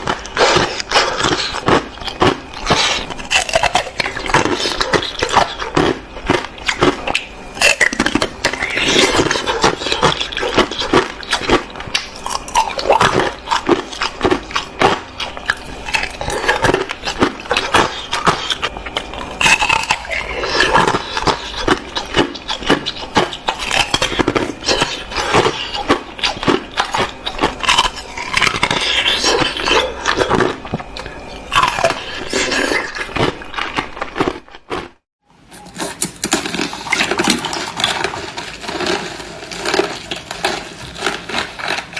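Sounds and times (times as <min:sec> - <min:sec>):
chewing crunchy ice: 0:00.0 - 0:41.9.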